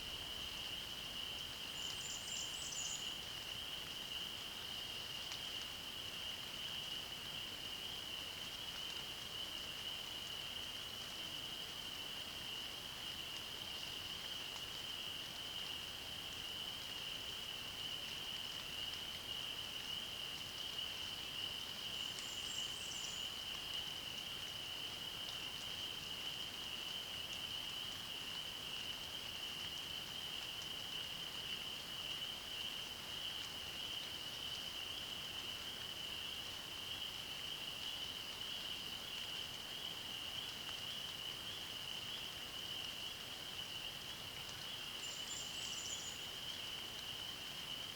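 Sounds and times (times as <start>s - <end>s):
rain hiss: 0.0s - 47.9s.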